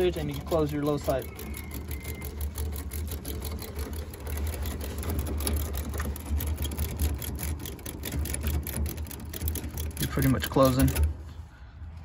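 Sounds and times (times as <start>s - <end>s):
fast buzzing rattle: 0.0s - 11.2s
compressor hum: 0.0s - 12.0s.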